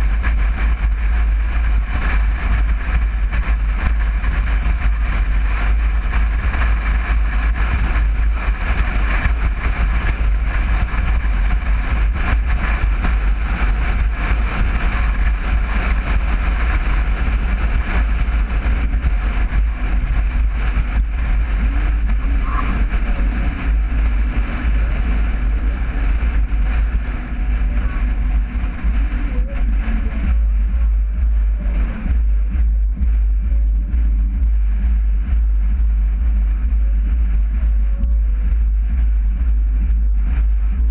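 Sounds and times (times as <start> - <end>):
van engine and road rumble: 0.0 - 40.9
wind buffeting microphone: 0.0 - 40.9.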